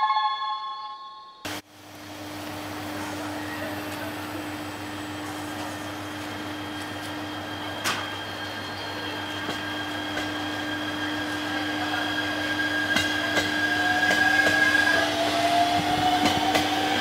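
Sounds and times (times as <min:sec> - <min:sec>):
electric train equipment humming: 0:00.9 - 0:17.0.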